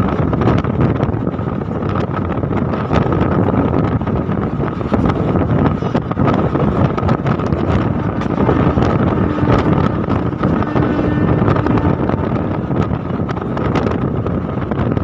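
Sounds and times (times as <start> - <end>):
train wheels rushing on rails: 0.0 - 15.0
wind buffeting microphone: 0.0 - 15.0.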